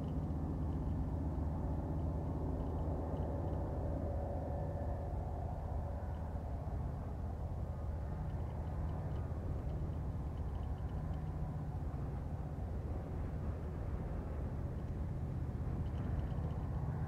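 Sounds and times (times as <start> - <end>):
distant locomotive engine drone: 0.0 - 17.0.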